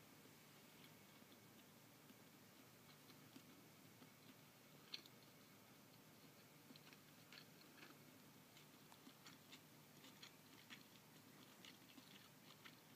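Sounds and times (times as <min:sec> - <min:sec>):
faint room hiss: 0:00.0 - 0:12.9
small irregular clicks: 0:00.8 - 0:12.9.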